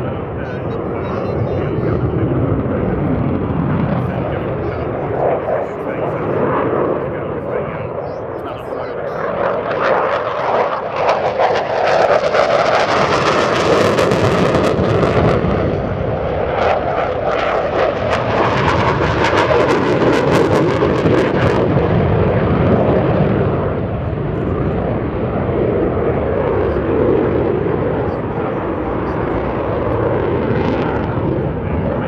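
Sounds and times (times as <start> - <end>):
fighter jet passing overhead: 0.0 - 32.0.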